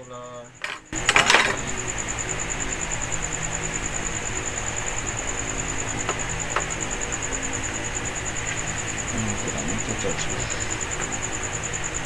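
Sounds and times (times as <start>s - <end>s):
steady hiss and hum: 0.0s - 12.0s.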